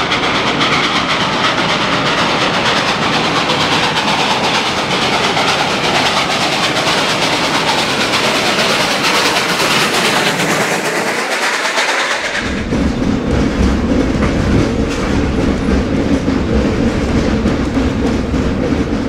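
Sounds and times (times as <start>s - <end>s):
train wheels on rail: 0.0s - 19.0s.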